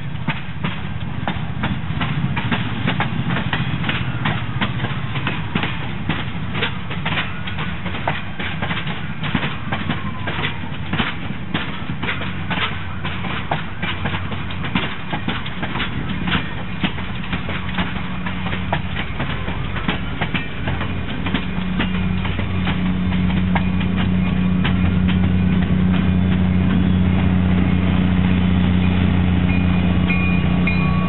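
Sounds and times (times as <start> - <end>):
diesel locomotive rumble: 0.0 - 31.0
train wheels clicking over rail joints: 0.0 - 31.0.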